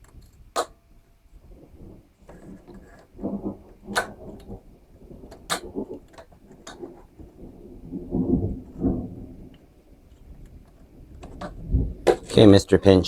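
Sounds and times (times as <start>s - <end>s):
low rumbling thumps: 1.4s - 12.5s.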